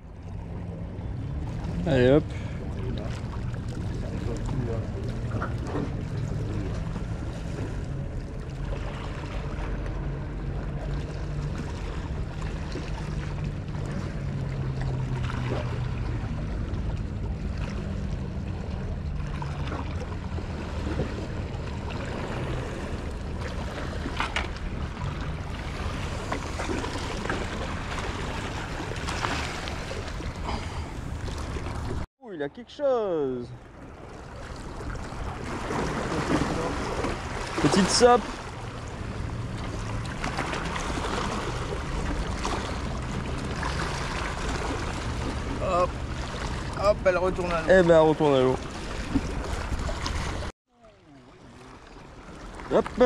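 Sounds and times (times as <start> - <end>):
water lapping against rocks: 0.0 - 32.1, 33.6 - 53.0.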